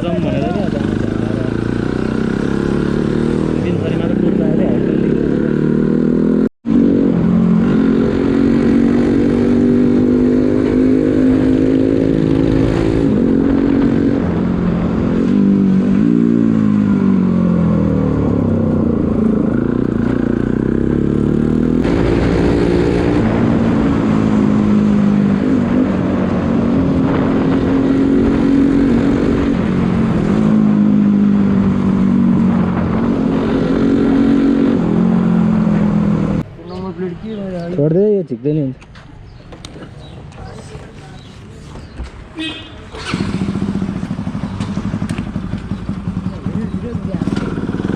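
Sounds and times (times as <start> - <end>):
motorcycle engine revving: 0.0 - 36.5, 41.8 - 47.9.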